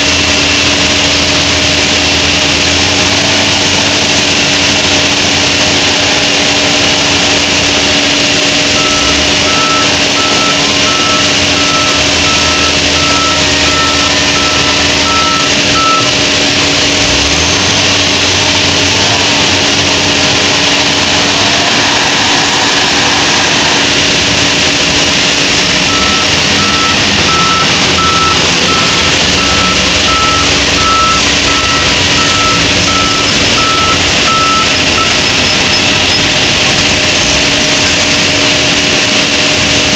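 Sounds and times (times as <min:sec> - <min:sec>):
reversing alarm beeping: 0:00.0 - 0:21.8, 0:22.9 - 0:38.8
diesel engines running: 0:00.0 - 0:39.9.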